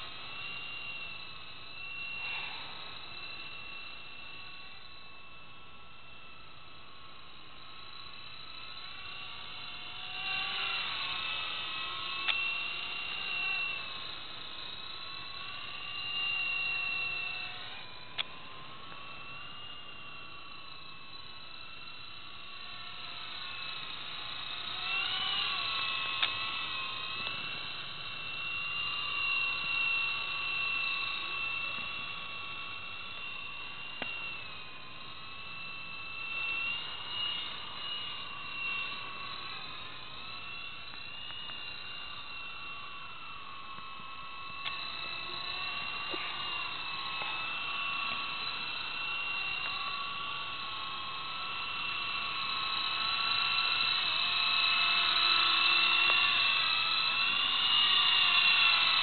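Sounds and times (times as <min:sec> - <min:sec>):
rc helicopter rotor whine: 0:00.0 - 0:59.0.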